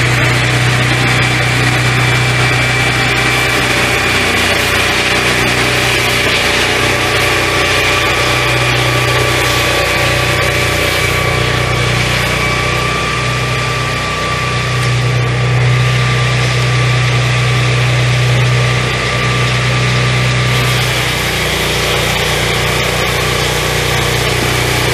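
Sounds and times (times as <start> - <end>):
sawmill engine running: 0.0 - 24.9.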